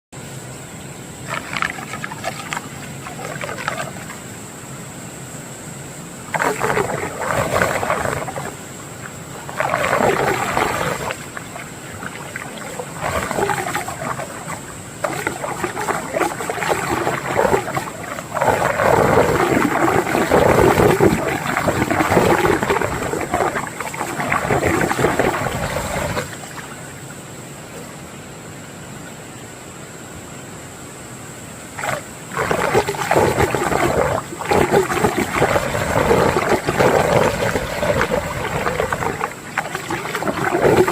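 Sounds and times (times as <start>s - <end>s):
running water rushing: 0.2s - 28.2s, 31.5s - 40.9s
water swirling in whirlpool: 0.7s - 28.0s, 31.5s - 40.9s.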